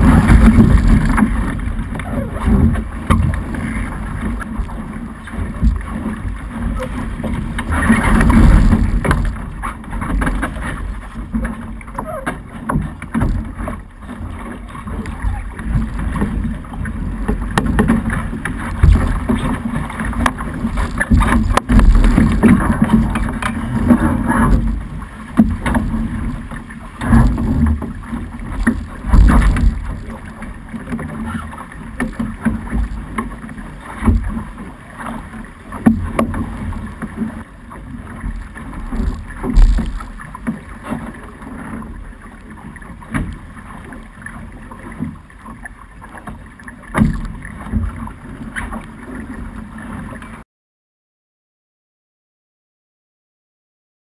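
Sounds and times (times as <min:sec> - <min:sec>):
water slapping along boat hull: 0:00.0 - 0:50.4.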